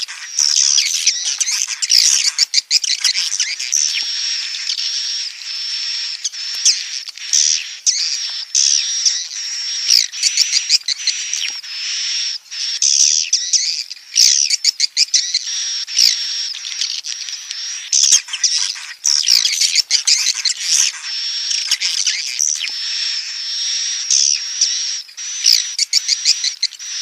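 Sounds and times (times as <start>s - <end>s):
bird chicks chirping: 0.0s - 27.0s.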